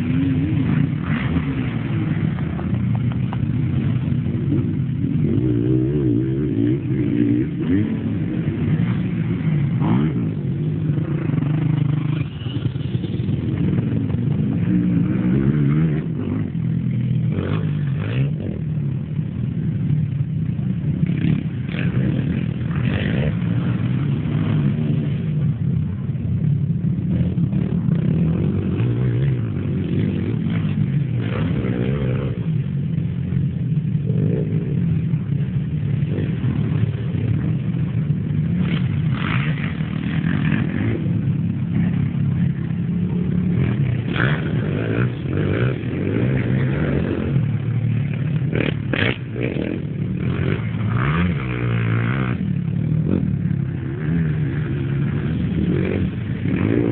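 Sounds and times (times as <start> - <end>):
quad engines revving: 0.0 - 56.9.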